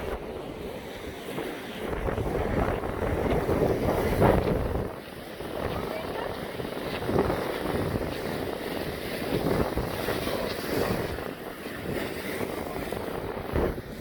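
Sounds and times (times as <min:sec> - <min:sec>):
big waves breaking: 0:00.0 - 0:14.0
wind buffeting microphone: 0:00.0 - 0:14.0.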